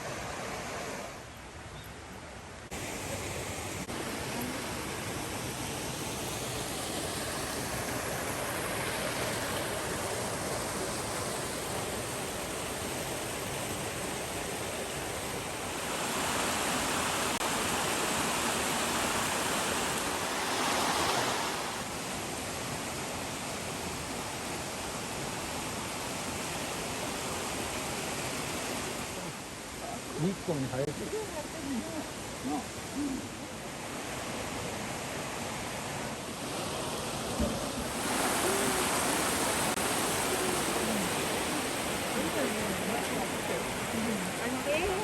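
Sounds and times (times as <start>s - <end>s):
flowing water rushing: 0.0s - 45.0s.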